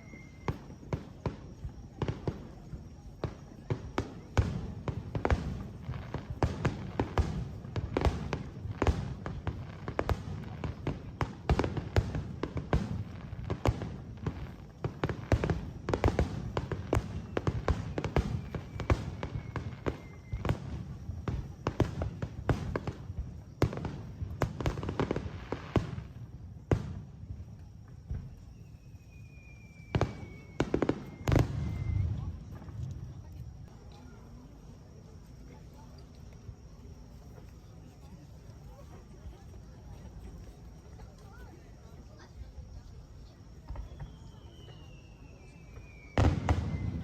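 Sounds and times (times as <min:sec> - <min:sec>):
fireworks bursts with booms and crackle: 0:00.0 - 0:47.0.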